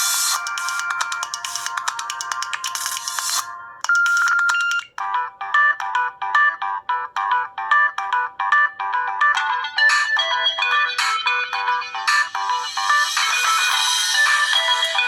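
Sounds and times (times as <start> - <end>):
electronic ringtone: 0.0 - 15.0.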